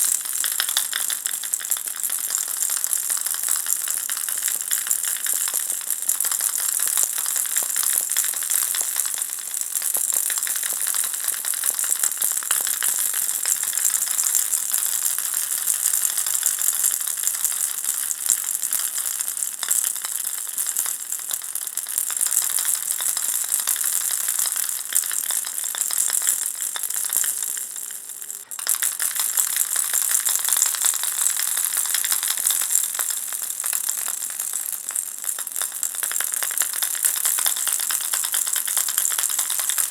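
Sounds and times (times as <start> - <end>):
baby rattle shaking: 0.0 - 20.0, 22.1 - 39.9.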